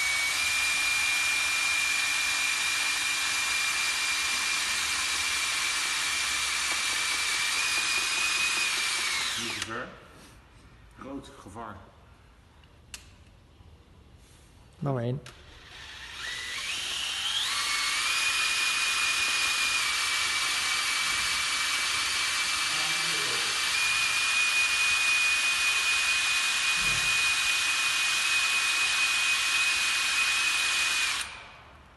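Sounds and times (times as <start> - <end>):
cordless drill whining: 0.0 - 9.7, 15.5 - 31.6.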